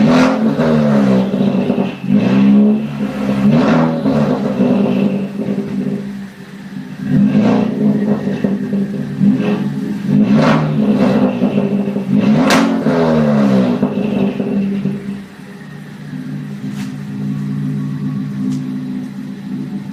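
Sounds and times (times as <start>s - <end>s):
car engine revving: 0.0s - 19.9s
exhaust pops: 0.0s - 19.9s.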